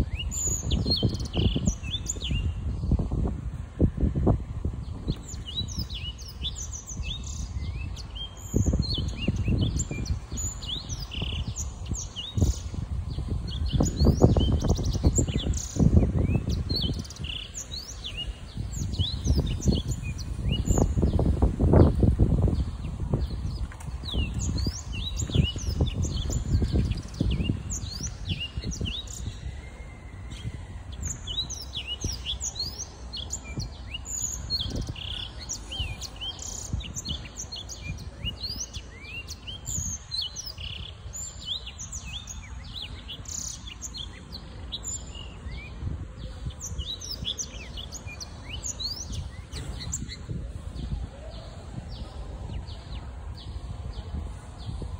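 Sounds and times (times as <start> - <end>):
canary twittering song: 5.1 - 22.1, 22.9 - 53.6.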